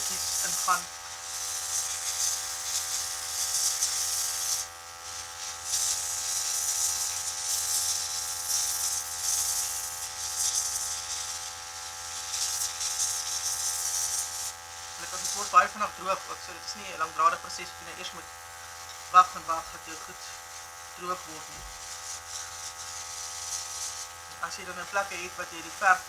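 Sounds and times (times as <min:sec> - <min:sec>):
airbrush hissing: 0:00.0 - 0:26.0
small compressor humming: 0:00.0 - 0:26.0.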